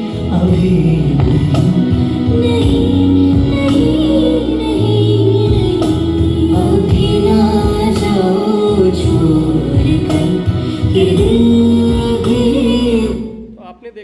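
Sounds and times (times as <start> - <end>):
song with female vocal on speaker: 0.0 - 13.6.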